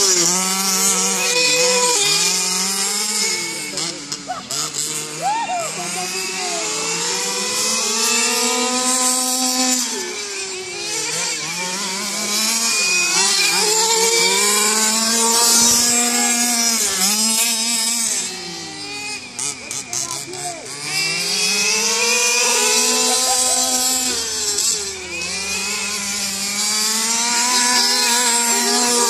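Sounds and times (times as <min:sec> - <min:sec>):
small race car engines revving: 0:00.0 - 0:29.0.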